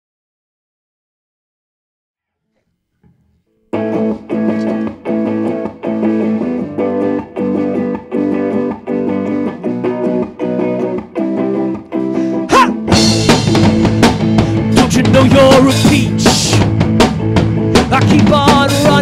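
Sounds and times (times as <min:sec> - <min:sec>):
guitar strumming chords: 0:03.0 - 0:19.0.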